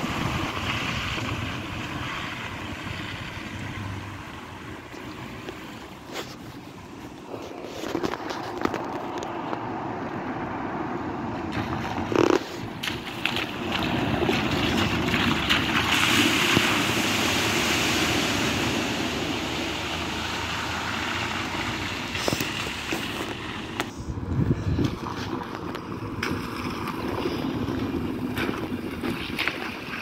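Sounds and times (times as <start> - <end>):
car splashing through water: 0.0 - 6.2, 7.9 - 30.0.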